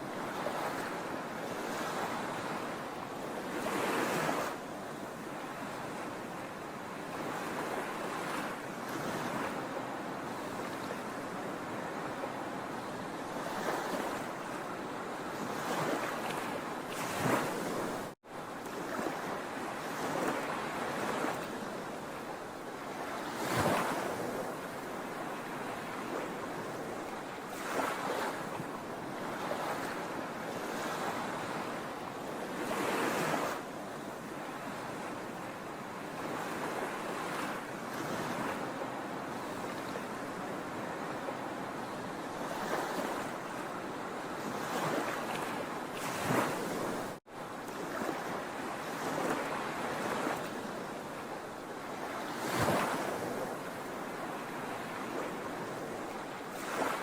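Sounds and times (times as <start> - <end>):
sea waves crashing on shore: 0.0 - 57.0.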